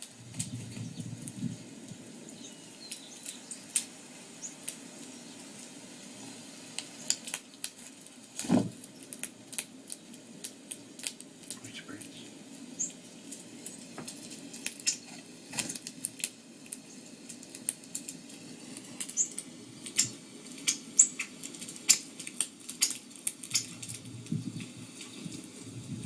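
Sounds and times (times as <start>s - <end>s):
small birds chirping: 0.0s - 7.4s, 8.4s - 17.4s, 19.0s - 22.1s, 22.8s - 25.4s.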